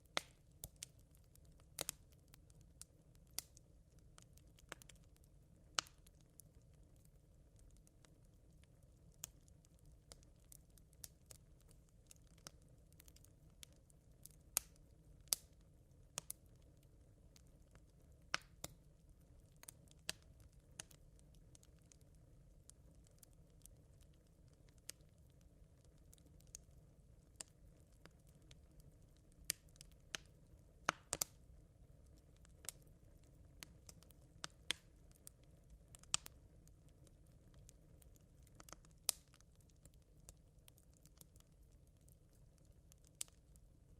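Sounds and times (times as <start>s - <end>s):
campfire embers crackling: 0.0s - 43.9s.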